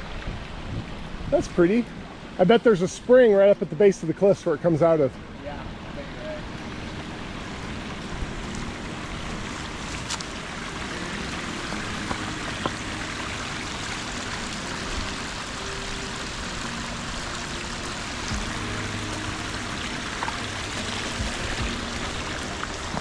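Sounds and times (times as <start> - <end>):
stream burbling over rocks: 0.0 - 23.0.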